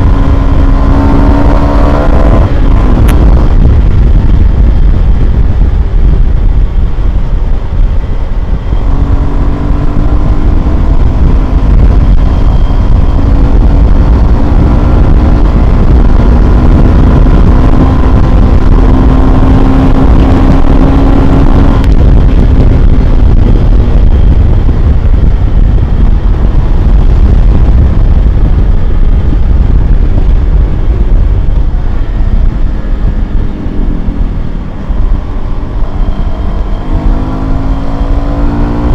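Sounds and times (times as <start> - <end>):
motorcycle engine low rumble: 0.0 - 38.9.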